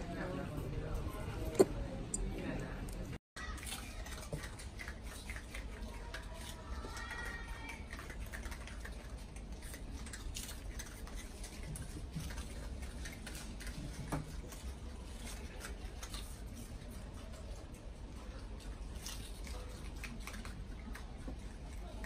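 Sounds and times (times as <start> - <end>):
lemurs chewing leaves: 0.0 - 22.0.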